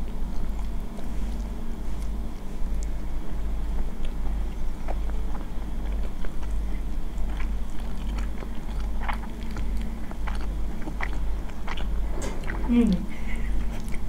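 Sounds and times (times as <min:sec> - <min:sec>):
chewing noodles: 0:00.0 - 0:14.0
steady low hum: 0:00.0 - 0:14.0.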